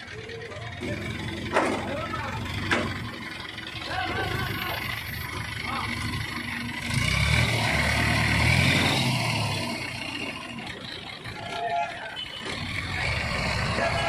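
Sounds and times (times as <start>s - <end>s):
crane engine revving: 0.0s - 11.6s, 12.3s - 14.0s.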